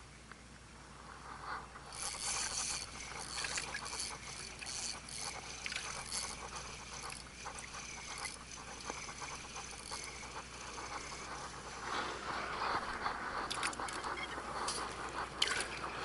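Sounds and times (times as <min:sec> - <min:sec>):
fishing reel clicking rapidly: 0:01.8 - 0:16.0.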